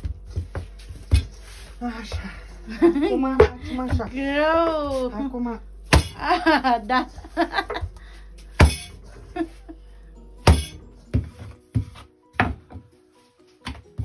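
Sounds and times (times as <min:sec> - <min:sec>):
background music simple melody: 0:00.0 - 0:14.0.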